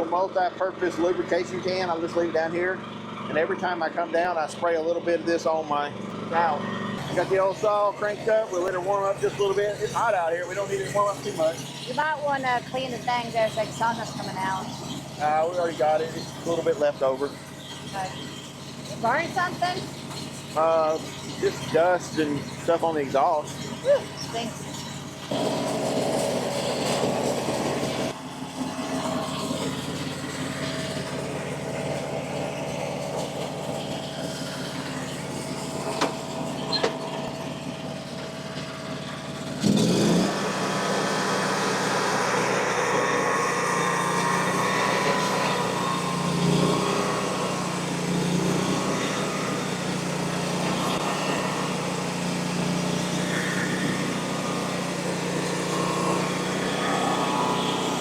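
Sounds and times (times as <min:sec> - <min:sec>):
small engine running and revving: 0:00.0 - 0:58.0.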